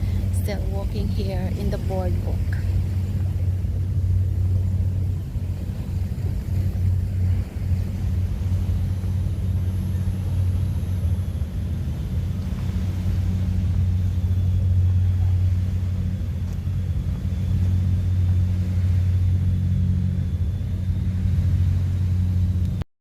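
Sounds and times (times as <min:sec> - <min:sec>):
steady low rumble: 0:00.0 - 0:22.8.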